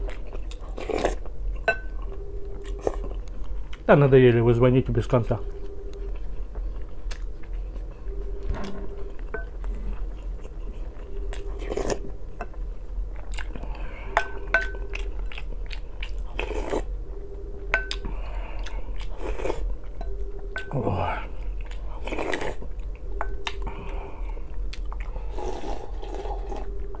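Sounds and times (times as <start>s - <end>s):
man chewing food: 0.0s - 3.9s, 5.4s - 27.0s.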